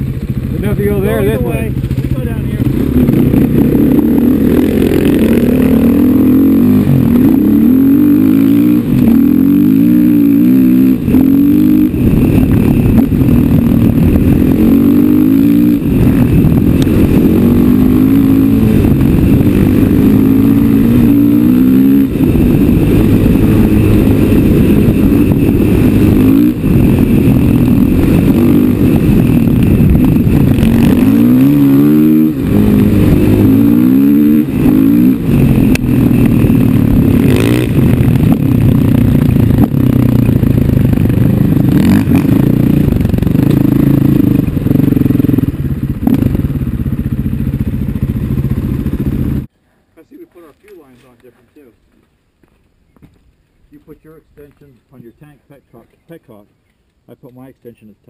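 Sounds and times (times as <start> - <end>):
dirt bike engine revving: 0.0 - 49.5.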